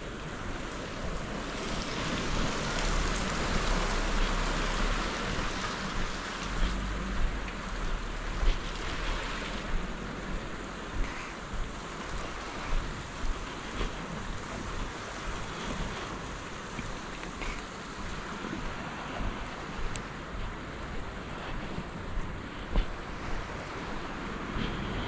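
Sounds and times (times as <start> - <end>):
rain on wooden decking and sea: 0.0 - 25.0
wind rumbling on microphone: 0.0 - 25.0.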